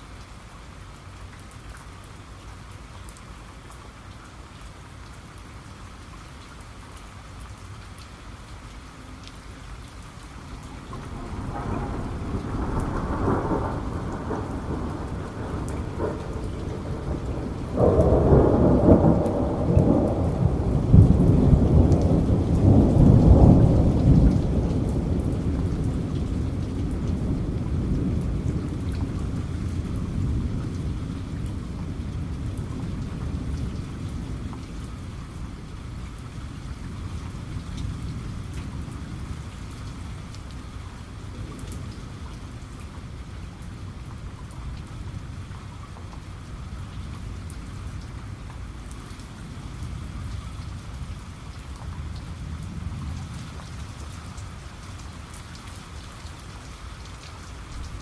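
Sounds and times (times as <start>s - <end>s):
heavy rain pattering: 0.0s - 58.0s
low rumble of thunder: 9.8s - 58.0s.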